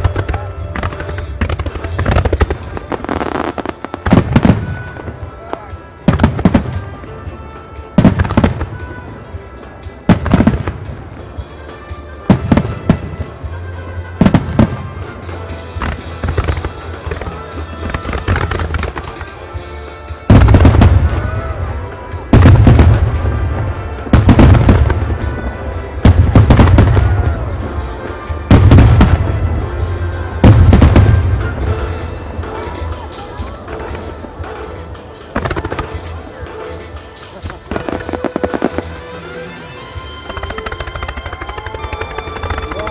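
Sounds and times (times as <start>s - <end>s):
crackling firework tails: 0.0s - 11.5s, 14.2s - 42.9s
music: 0.0s - 42.9s.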